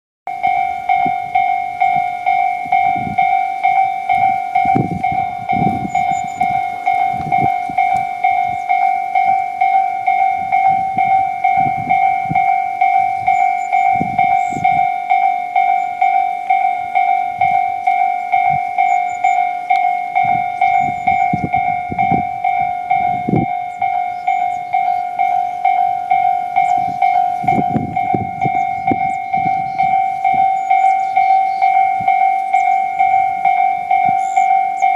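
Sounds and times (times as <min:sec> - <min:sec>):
low train rumble: 0:00.3 - 0:34.9
railway warning bell ringing: 0:00.3 - 0:34.9.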